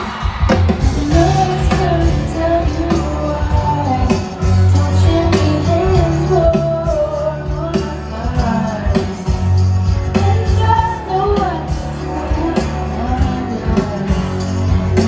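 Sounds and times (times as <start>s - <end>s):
live pop band playing: 0.0s - 15.0s
woman singing: 0.8s - 15.0s.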